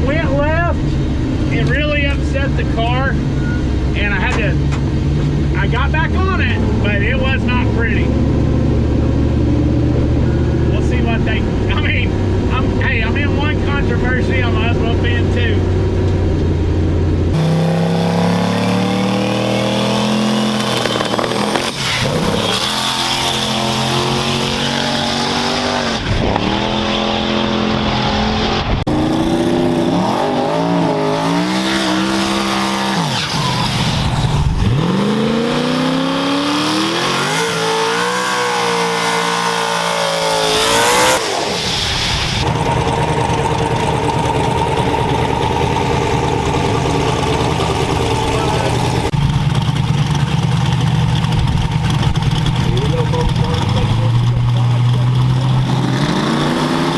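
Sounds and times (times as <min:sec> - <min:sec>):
race truck engine at full throttle: 0:00.0 - 0:56.9.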